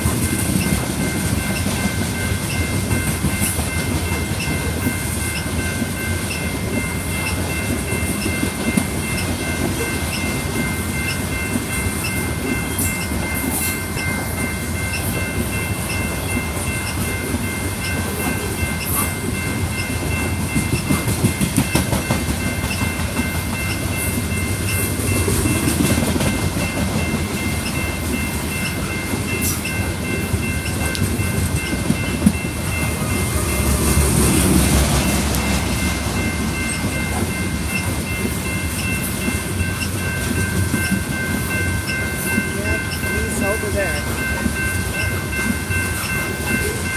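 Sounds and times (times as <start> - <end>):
train wheels rumbling on rails: 0.0 - 46.9
wheels clickety-clack: 0.0 - 46.9.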